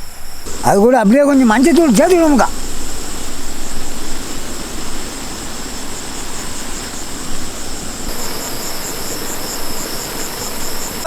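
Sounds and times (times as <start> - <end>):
insects chirping trill: 0.0 - 11.0
steady hiss: 0.0 - 11.0.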